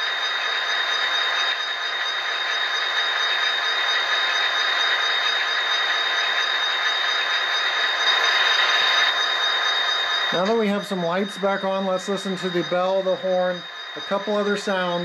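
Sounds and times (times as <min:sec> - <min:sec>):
model train diesel idle hum: 0:00.0 - 0:15.0
thin high whine: 0:00.0 - 0:15.0.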